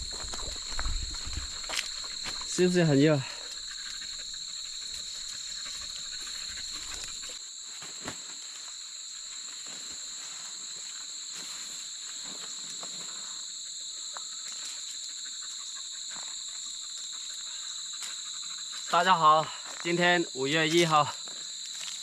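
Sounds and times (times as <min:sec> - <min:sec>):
insect chorus trilling: 0:00.0 - 0:22.0.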